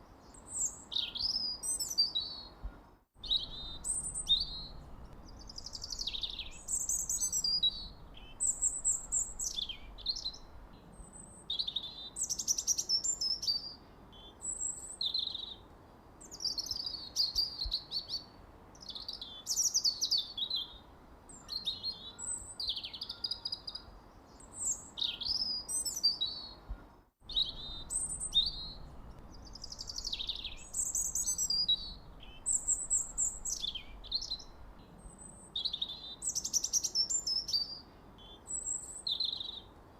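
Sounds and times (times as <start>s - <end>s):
songbirds chirping and singing: 0.2s - 15.7s, 16.3s - 39.8s.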